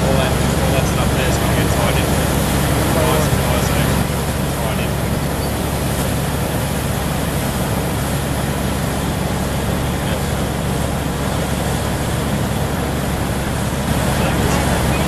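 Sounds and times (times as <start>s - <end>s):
machinery running: 0.0s - 15.0s
traffic: 0.0s - 15.0s.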